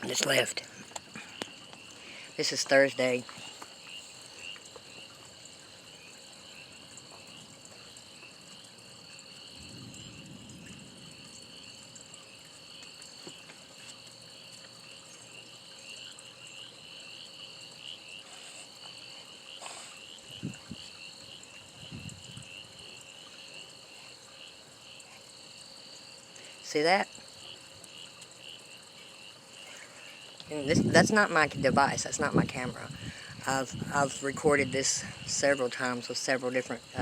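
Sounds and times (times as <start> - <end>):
frogs and insects trilling: 0.0 - 37.0.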